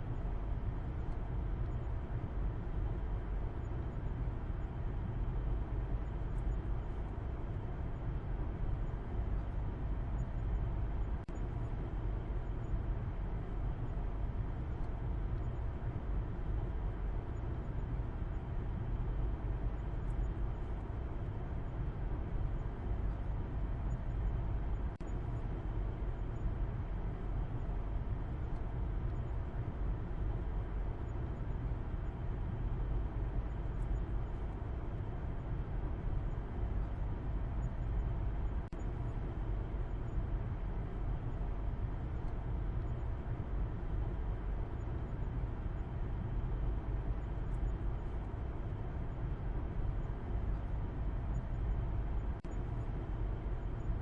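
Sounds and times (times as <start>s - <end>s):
car noise low rumble: 0.0s - 54.0s.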